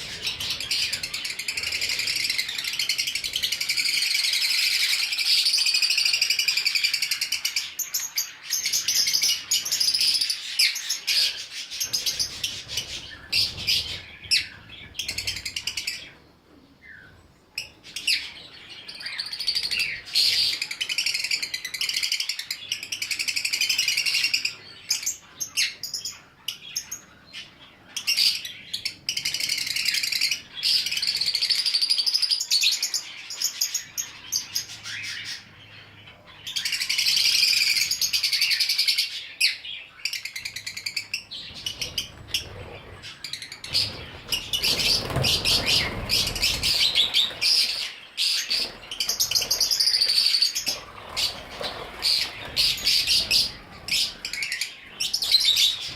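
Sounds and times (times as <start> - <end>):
parrots chattering and chirping: 0.0 - 16.1, 17.6 - 55.9.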